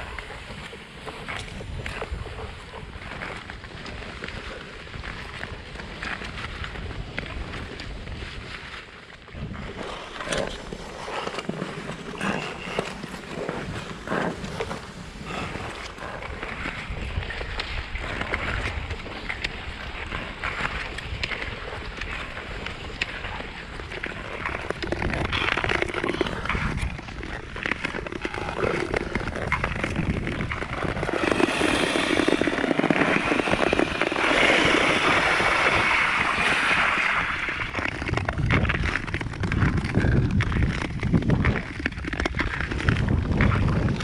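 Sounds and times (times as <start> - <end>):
ice clicks and crackles: 0.0 - 44.0
skate blades gliding on ice: 0.0 - 44.0.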